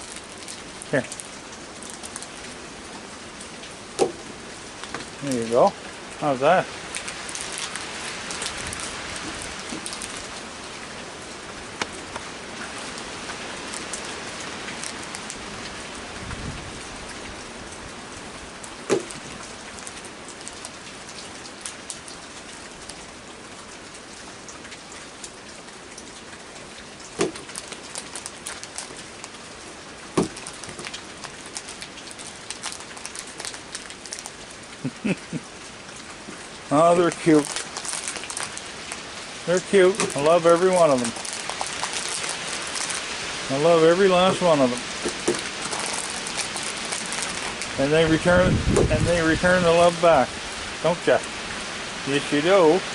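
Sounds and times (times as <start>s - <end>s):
heavy rain pattering: 0.0s - 52.9s.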